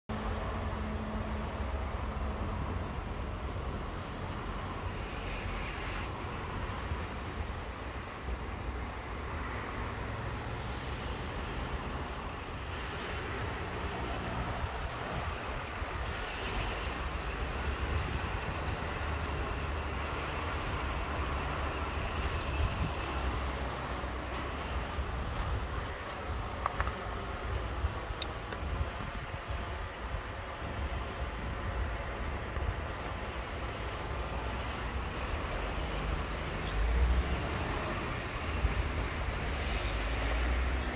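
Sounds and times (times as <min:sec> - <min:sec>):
distant road traffic rumble: 0:00.1 - 0:40.9
even hiss: 0:00.3 - 0:40.9.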